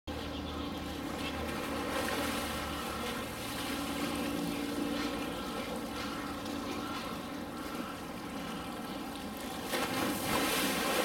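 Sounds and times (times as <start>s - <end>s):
water sloshing and splashing: 0.8s - 11.0s.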